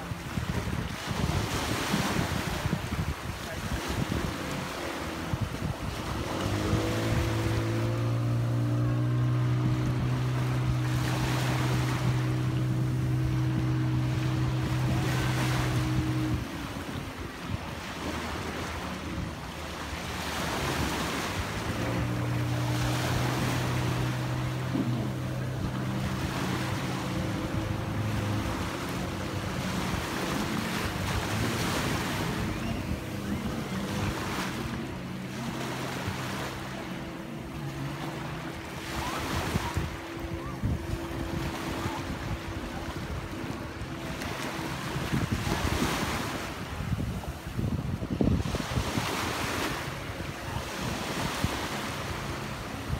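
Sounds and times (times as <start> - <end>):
jet ski engine idling: 0.0 - 52.9
waves washing: 0.0 - 52.9
wind on microphone: 0.0 - 52.9.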